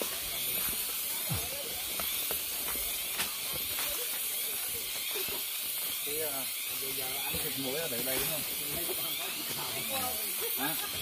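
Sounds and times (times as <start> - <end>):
faint distant voices: 0.0 - 11.0
insects droning: 0.0 - 11.0.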